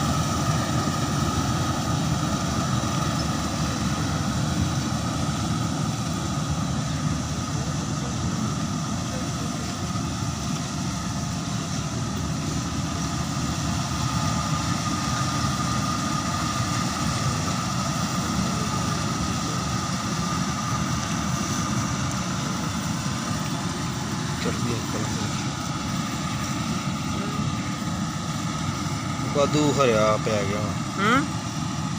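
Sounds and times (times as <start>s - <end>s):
combine harvester engine drone: 0.0s - 31.9s
thin steady whine: 0.0s - 31.9s.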